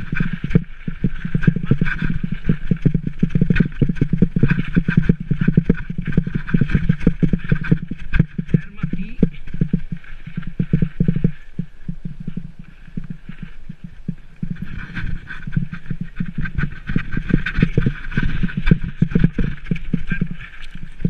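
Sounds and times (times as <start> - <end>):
mountain bike rattling over stones: 0.0 - 21.0
rushing wind noise: 0.0 - 21.0.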